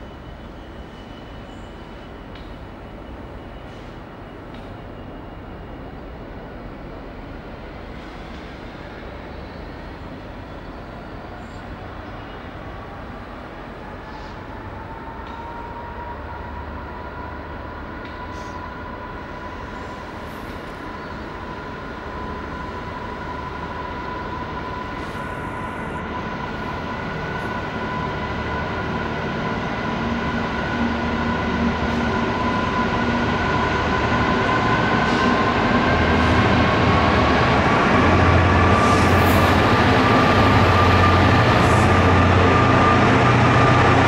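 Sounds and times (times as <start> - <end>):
diesel locomotive engine working hard: 0.0 - 44.0.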